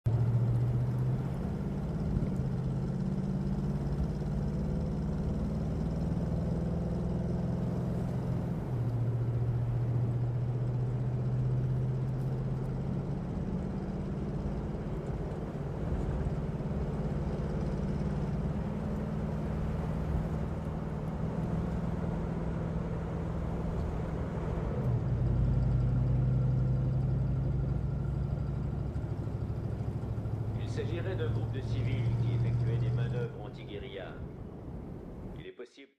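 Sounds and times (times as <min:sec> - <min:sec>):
car engine and road noise: 0:00.0 - 0:35.4.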